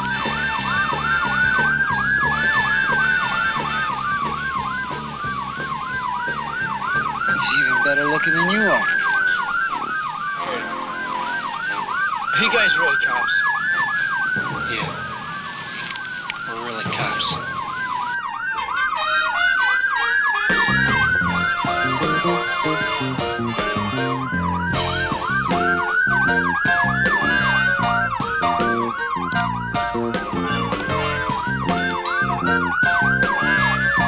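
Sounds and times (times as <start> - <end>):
police siren yelp and wail: 0.1 - 23.2, 23.9 - 30.4, 31.8 - 34.0.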